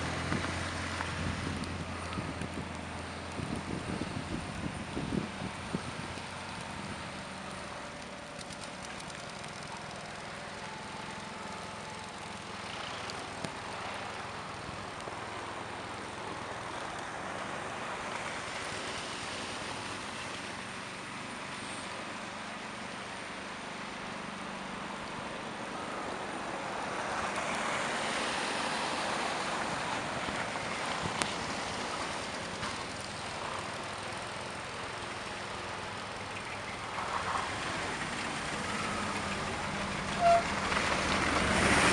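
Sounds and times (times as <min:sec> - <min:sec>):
vehicle and road noise: 0:00.0 - 0:41.9.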